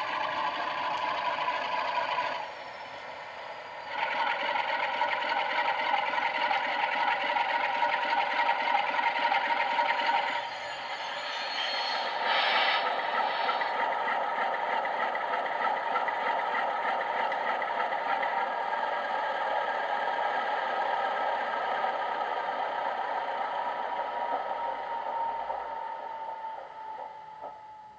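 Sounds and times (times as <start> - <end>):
diesel engine through small speaker: 0.0 - 27.9.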